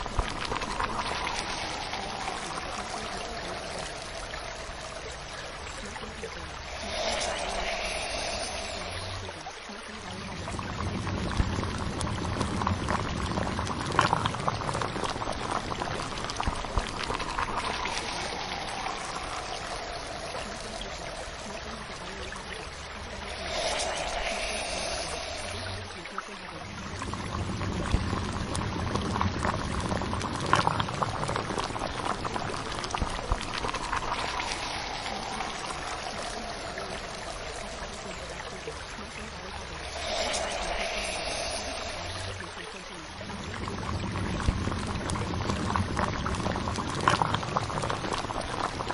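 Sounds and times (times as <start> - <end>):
water pouring or bubbling: 0.0 - 48.9.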